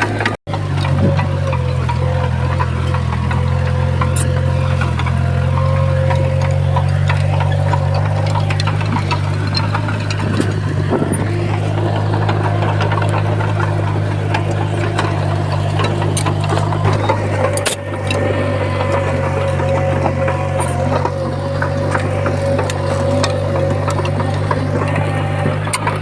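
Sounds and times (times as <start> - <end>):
bulldozer diesel engine running: 0.0 - 26.0
small metallic clicks and rattles: 0.0 - 26.0.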